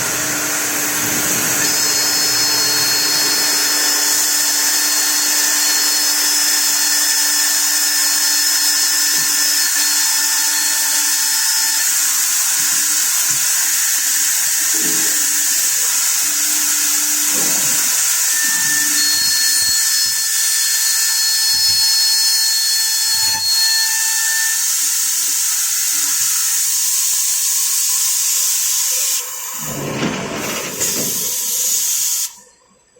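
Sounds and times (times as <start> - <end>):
drilling machine spindles whining: 0.0 - 32.4.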